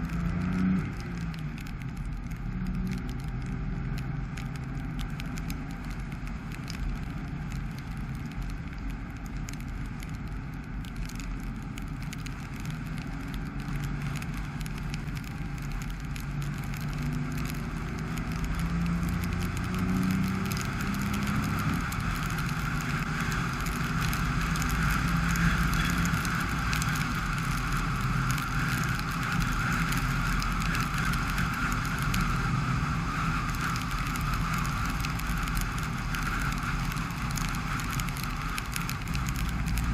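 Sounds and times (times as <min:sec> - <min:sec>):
car engine and tyres droning: 0:00.0 - 0:39.9.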